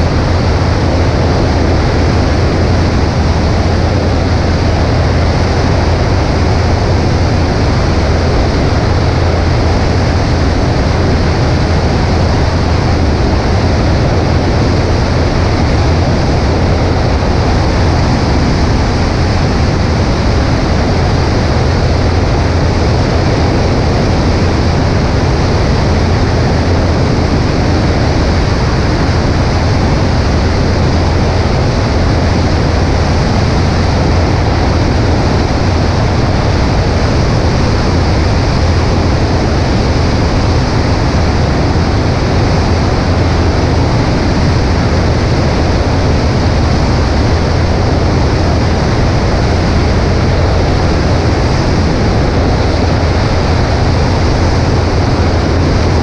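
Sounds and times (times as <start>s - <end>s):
airplane engine drone: 0.0s - 56.0s
wind rush on microphone: 0.0s - 56.0s.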